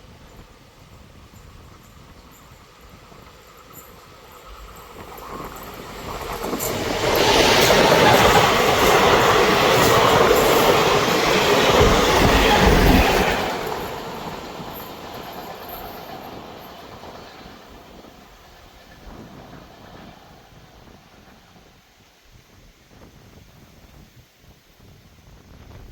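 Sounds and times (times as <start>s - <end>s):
train wheels rattling on rails: 0.0s - 22.2s.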